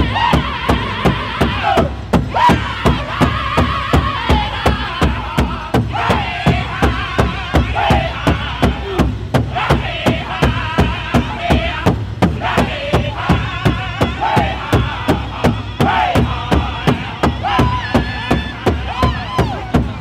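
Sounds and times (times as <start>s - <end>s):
big drum steady beat: 0.0s - 20.0s
group singing in high voices: 0.0s - 20.0s.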